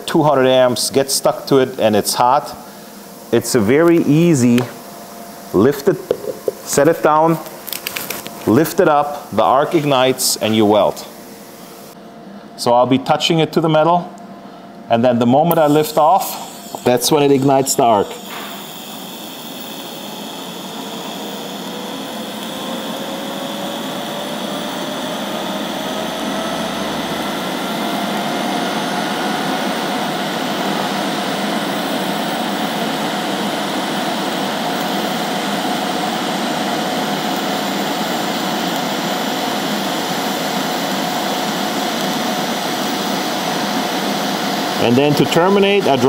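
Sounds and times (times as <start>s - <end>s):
welding arc hissing: 0.5s - 12.0s, 15.5s - 46.0s.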